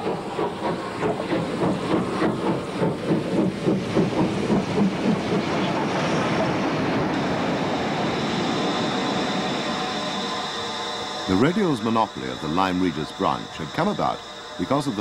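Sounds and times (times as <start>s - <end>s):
steam locomotive exhaust beats: 0.0s - 15.0s.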